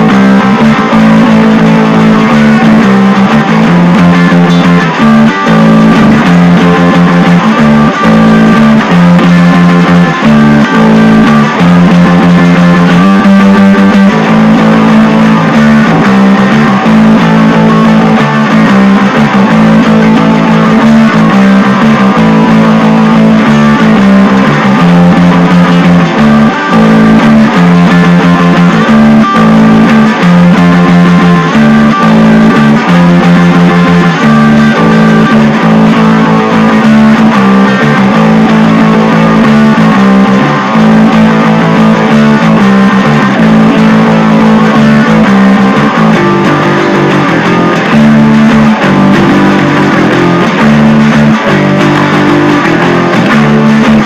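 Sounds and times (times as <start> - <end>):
guitar-led instrumental music: 0.0 - 54.0.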